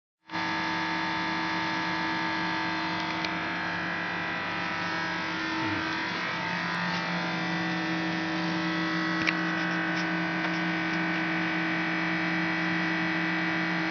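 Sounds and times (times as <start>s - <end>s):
lathe machine hum: 0.4s - 13.9s.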